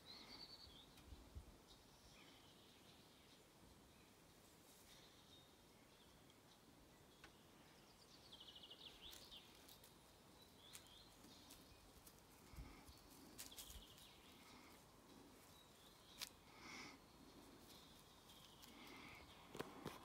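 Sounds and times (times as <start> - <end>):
faint trilling bird song: 0.0 - 20.0.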